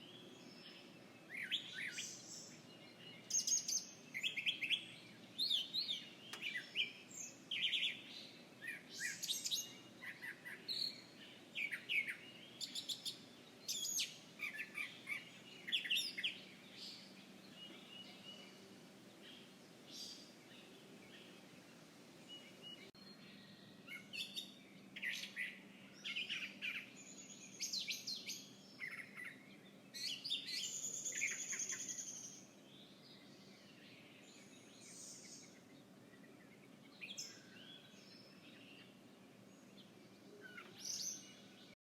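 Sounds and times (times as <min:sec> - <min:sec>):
faint outdoor background: 0:00.0 - 0:41.8
songbirds chirping and trilling: 0:00.0 - 0:41.8.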